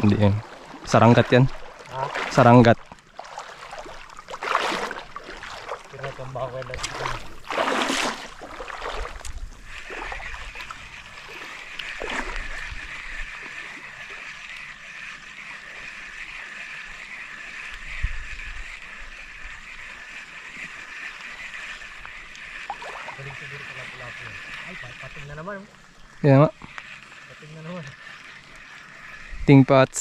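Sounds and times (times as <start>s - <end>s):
fishing reel whirring: 0.0s - 30.0s
water lapping: 0.0s - 30.0s.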